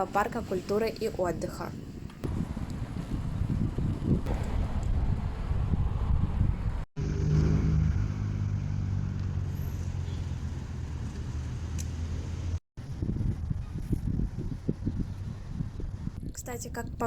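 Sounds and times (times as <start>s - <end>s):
vehicle engine humming: 2.3s - 16.2s.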